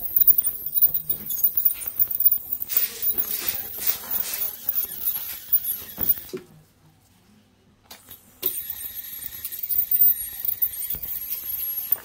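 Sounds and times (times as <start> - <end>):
dental scaler high-pitched whine: 0.0 - 6.3, 8.4 - 12.0.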